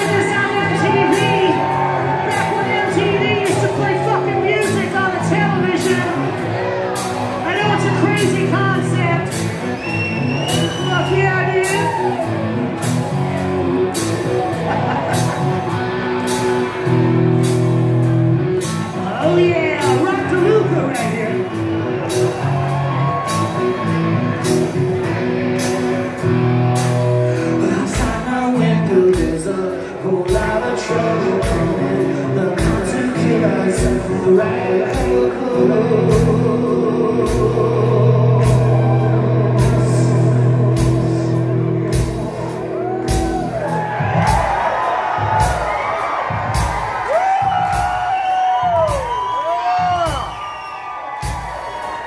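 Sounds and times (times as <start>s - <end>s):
live hard rock band: 0.0s - 52.0s.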